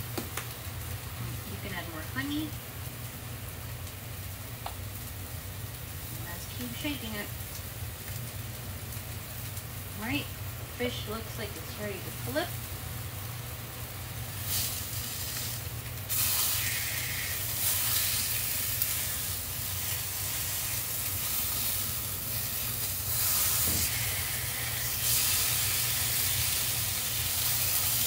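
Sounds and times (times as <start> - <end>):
fish sizzling in a frying pan: 0.0 - 28.0.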